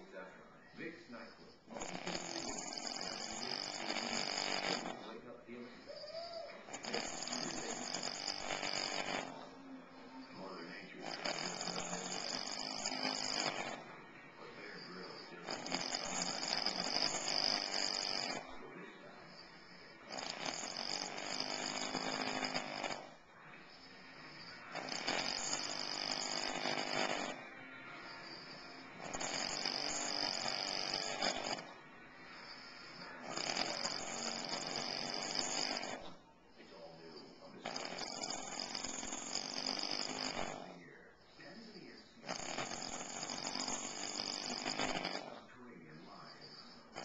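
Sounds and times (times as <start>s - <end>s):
quiet breaths: 0.0s - 47.0s
man snoring loudly: 1.7s - 5.1s, 6.0s - 9.6s, 10.2s - 13.9s, 14.6s - 18.5s, 19.3s - 36.2s, 37.1s - 40.8s, 42.2s - 45.4s, 46.4s - 47.0s.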